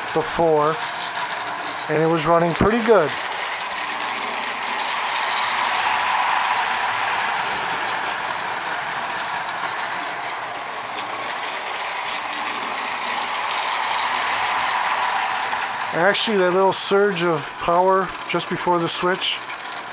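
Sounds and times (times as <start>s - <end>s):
toy train motor whirring: 0.0s - 19.9s
toy train wheels rattling on rails: 0.0s - 19.9s.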